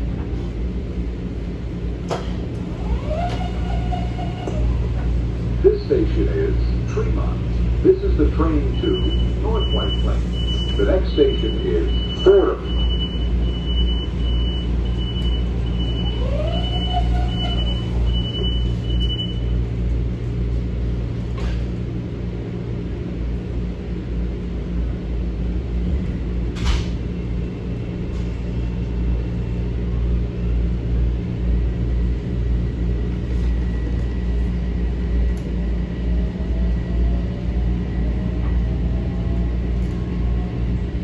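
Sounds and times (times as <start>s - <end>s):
train car rumble: 0.0s - 41.0s.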